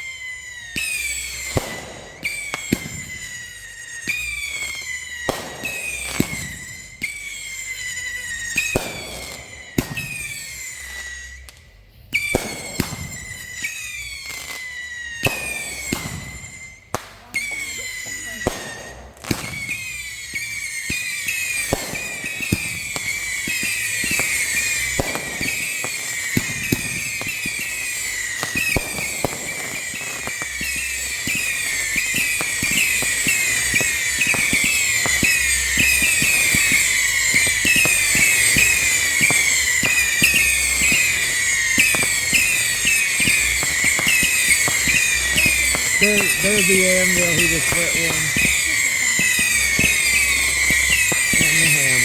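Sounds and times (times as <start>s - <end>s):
firework cracks and pops: 0.0s - 52.0s
firework whistles: 0.0s - 52.0s.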